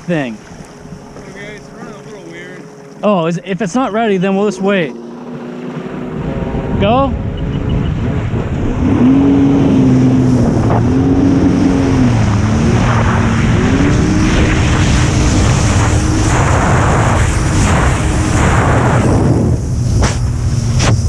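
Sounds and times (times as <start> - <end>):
jet ski engine at full throttle: 0.0 - 21.0
rushing wind: 3.7 - 21.0.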